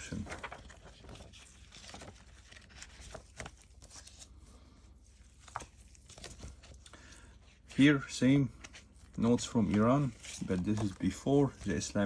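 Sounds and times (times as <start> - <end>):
banknotes rustling: 0.0 - 12.0.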